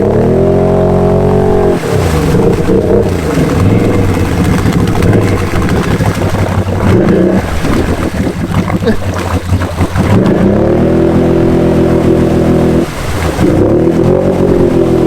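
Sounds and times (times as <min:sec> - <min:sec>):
atv engine revving hard: 0:00.0 - 0:15.0.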